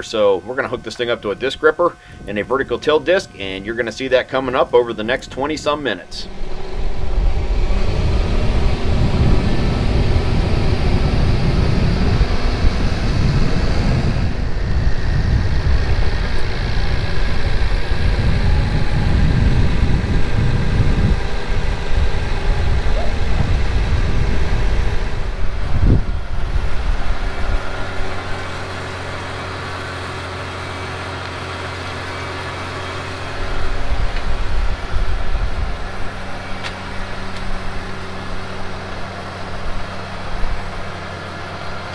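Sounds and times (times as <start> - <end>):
tractor diesel engine rumbling: 0.0 - 41.9.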